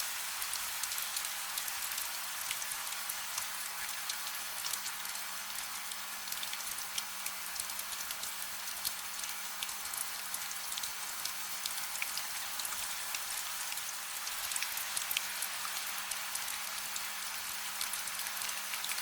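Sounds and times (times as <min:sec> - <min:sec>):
gentle rain hiss: 0:00.0 - 0:19.0
raindrops ticking on a surface: 0:00.0 - 0:19.0.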